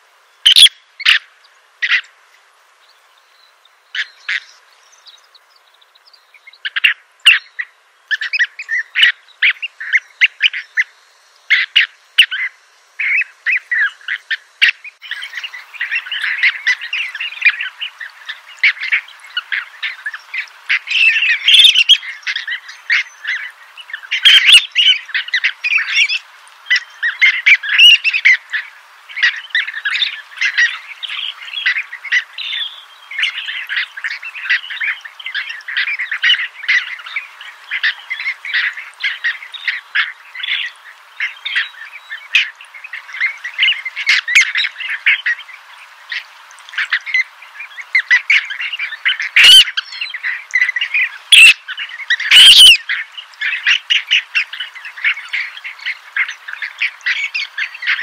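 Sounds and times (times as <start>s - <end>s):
flock of birds chirping: 0.0s - 58.0s.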